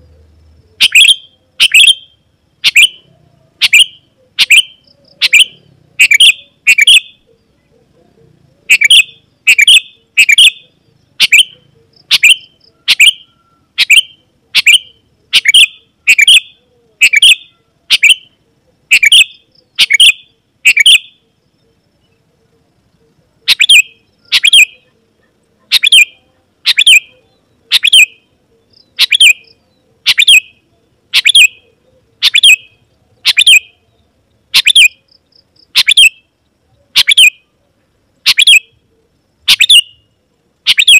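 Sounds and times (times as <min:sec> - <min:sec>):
bird calling sharp notes: 0:00.0 - 0:07.4, 0:08.6 - 0:21.2, 0:23.4 - 0:33.9, 0:34.5 - 0:36.3, 0:36.9 - 0:37.5, 0:38.2 - 0:38.8, 0:39.4 - 0:40.9.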